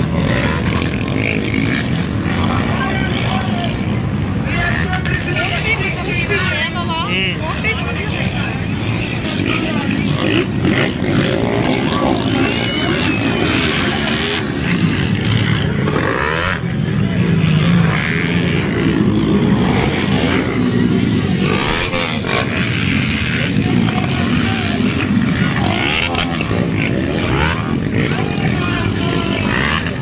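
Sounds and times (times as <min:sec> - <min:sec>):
motorcycle engines revving: 0:00.0 - 0:30.0
motorcycles passing by: 0:00.0 - 0:30.0.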